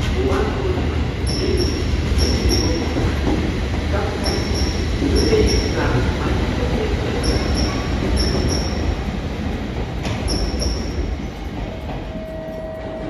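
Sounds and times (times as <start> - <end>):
train rumbling past on rails: 0.0 - 13.0.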